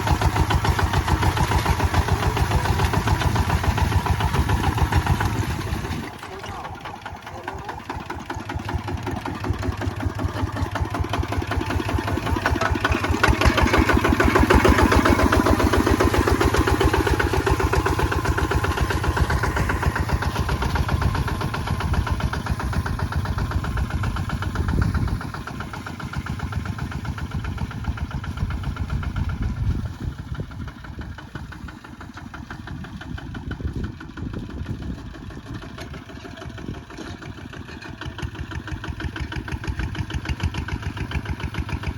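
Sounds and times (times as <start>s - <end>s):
diesel tractor engine chugging: 0.0s - 41.9s.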